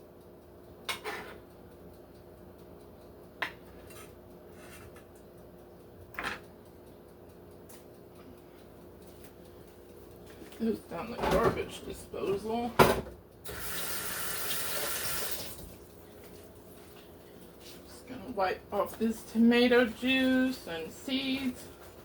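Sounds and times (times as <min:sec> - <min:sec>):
steady low hum: 0:00.0 - 0:13.5, 0:15.6 - 0:22.0.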